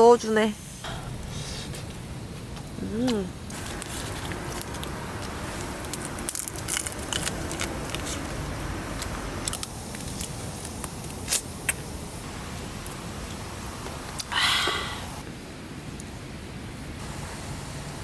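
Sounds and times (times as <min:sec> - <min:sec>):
campfire crackling and sizzling: 0:00.8 - 0:18.0.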